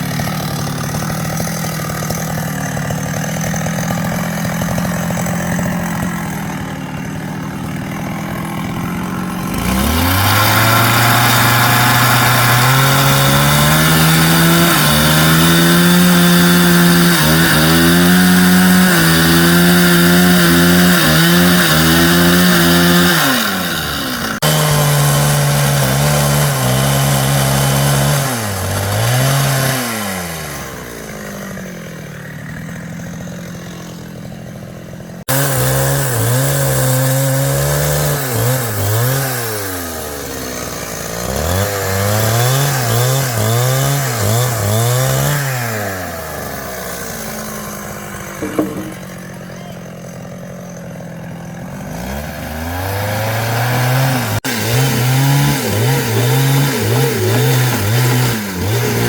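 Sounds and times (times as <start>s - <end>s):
power tool engine cutting wood: 0.0s - 59.0s.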